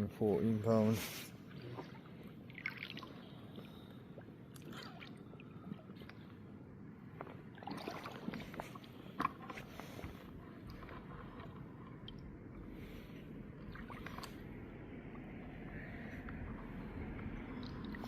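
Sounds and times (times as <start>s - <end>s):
wet squelching and sloshing: 0.9s - 6.5s, 7.1s - 18.0s.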